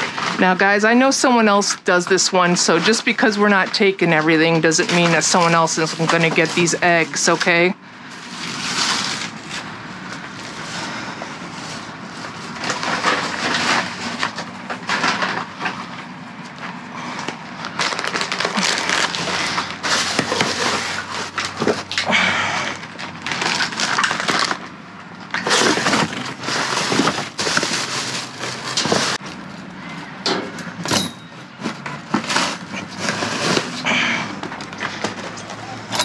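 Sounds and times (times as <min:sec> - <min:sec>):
trash rustling and clattering: 0:00.0 - 0:36.0.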